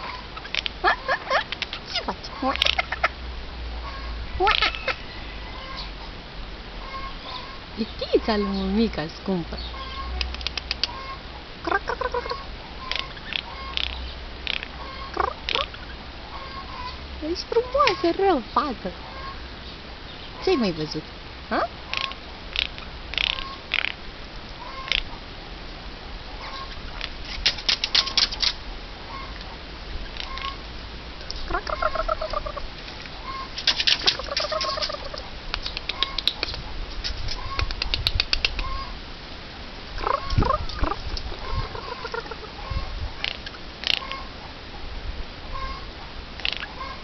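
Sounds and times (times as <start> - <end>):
bird wavering calls: 0.0 - 3.2, 3.8 - 6.1, 6.8 - 19.5, 21.5 - 24.0, 24.6 - 25.2, 26.3 - 29.4, 30.0 - 30.6, 31.3 - 36.6, 37.3 - 39.0, 40.0 - 44.4, 45.5 - 47.0.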